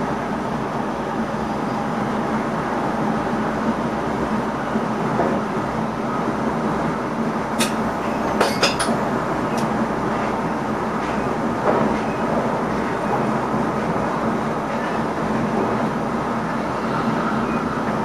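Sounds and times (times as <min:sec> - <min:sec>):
train cab rumble with low hum: 0:00.0 - 0:18.0.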